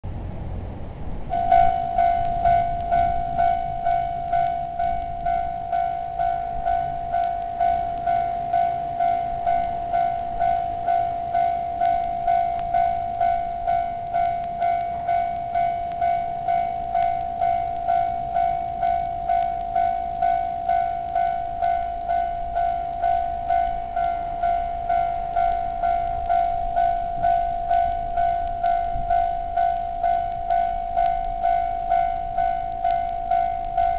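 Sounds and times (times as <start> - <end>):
level crossing warning bell: 1.2 - 33.9.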